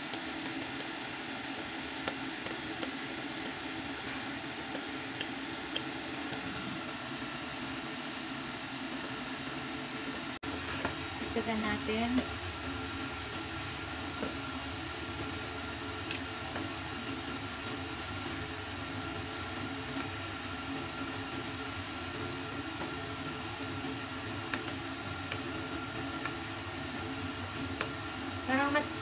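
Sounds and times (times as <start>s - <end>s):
background hum and hiss: 0.0s - 29.0s.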